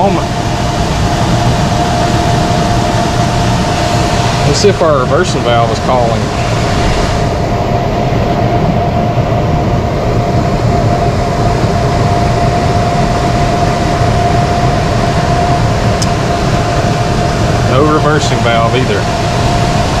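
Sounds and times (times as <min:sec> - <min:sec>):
hvac hum and rumble: 0:00.0 - 0:20.0
steady whine: 0:00.0 - 0:20.0.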